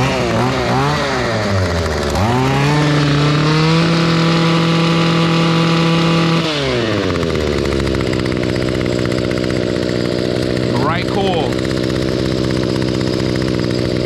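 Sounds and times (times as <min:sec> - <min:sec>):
string trimmer engine revving: 0:00.0 - 0:14.0.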